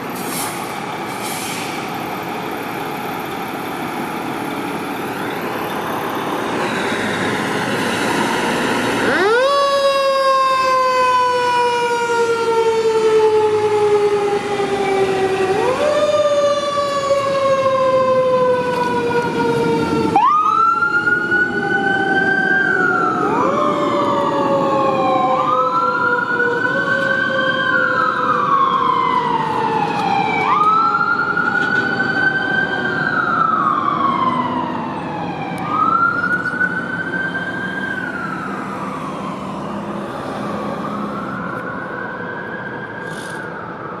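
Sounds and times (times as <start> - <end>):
fire truck siren wailing: 0.0 - 44.0
higher siren cycle: 5.0 - 44.0.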